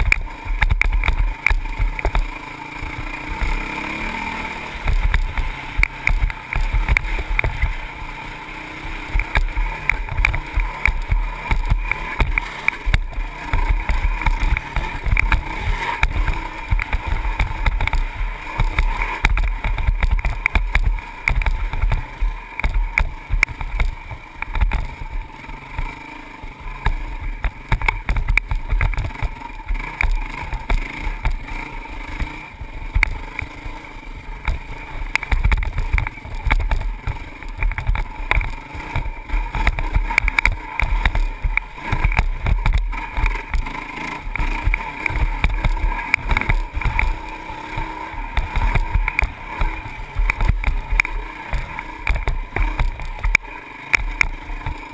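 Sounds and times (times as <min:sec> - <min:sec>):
bike rattling over rough track: 0:00.0 - 0:54.9
dirt bike engine running: 0:00.0 - 0:54.9.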